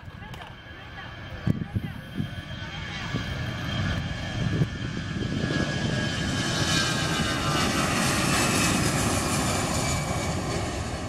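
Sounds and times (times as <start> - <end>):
jet engines roaring at take-off: 0.0 - 11.0.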